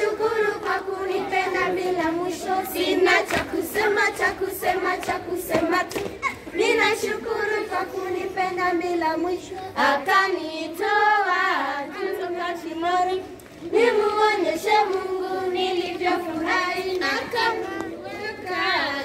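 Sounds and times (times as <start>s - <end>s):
children singing: 0.0s - 12.8s, 13.7s - 19.0s.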